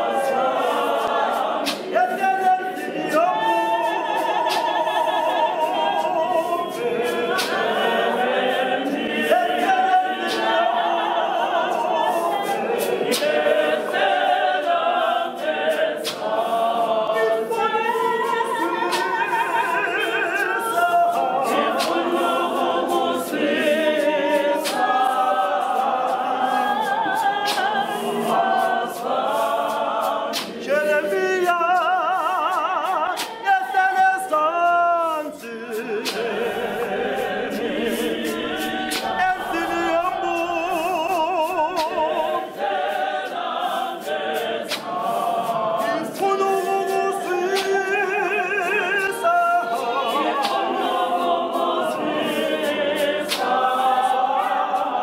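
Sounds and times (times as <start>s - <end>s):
congregation singing a hymn: 0.0s - 55.0s
voice singing with wavering vibrato: 0.0s - 55.0s.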